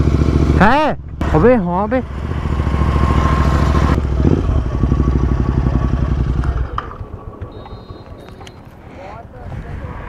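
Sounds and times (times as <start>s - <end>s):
motorcycle engine idling: 0.0s - 9.5s.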